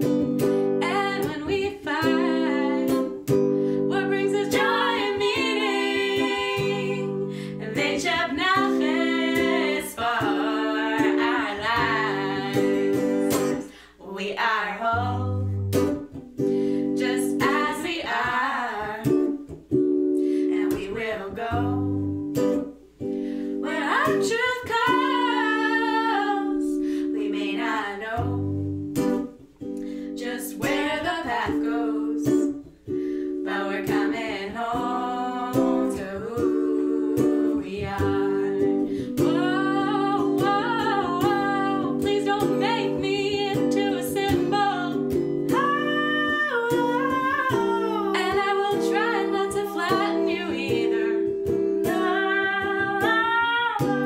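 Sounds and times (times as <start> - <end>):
plucked acoustic strings: 0.0 - 13.8, 14.9 - 54.0
person singing: 0.7 - 15.6, 23.6 - 28.6, 29.7 - 54.0.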